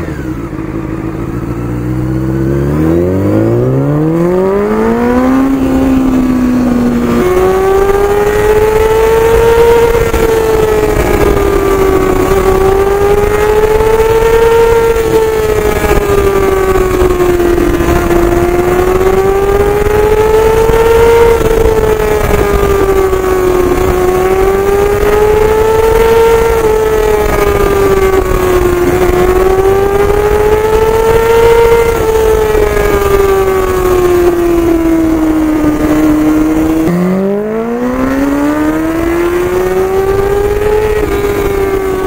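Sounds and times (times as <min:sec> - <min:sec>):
motorcycle engine under way: 0:00.0 - 0:42.0
wind noise: 0:02.2 - 0:42.0.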